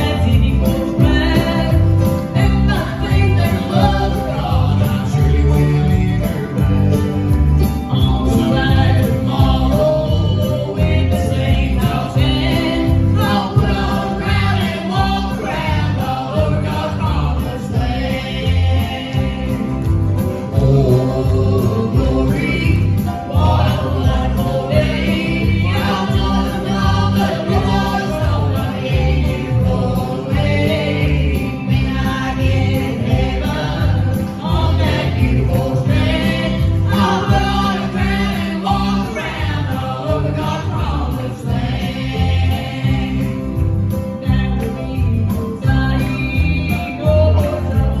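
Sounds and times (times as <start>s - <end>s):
instrumental accompaniment: 0.0s - 48.0s
low bass line: 0.0s - 48.0s
vocal group singing in harmony: 0.0s - 48.0s.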